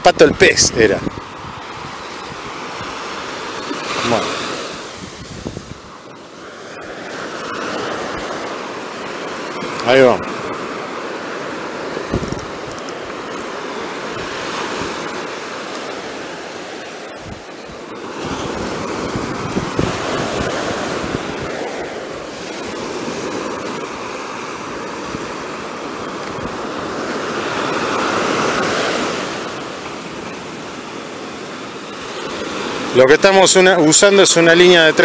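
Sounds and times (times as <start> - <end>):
ocean surf breaking on beach: 0.0 - 35.0.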